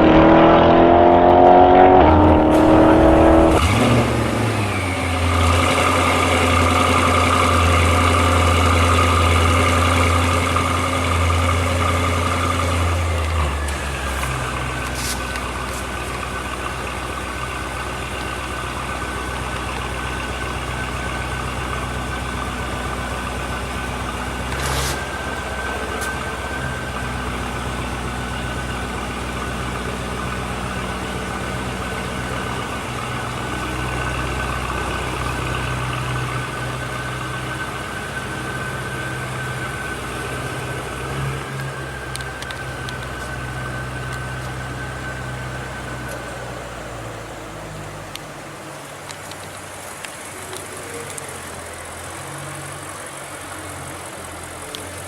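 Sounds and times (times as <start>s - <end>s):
car engine running steadily: 0.0s - 55.0s.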